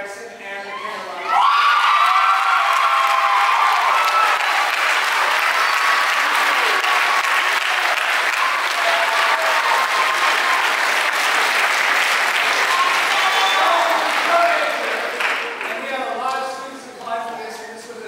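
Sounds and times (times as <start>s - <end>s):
audience applause: 1.4s - 16.1s.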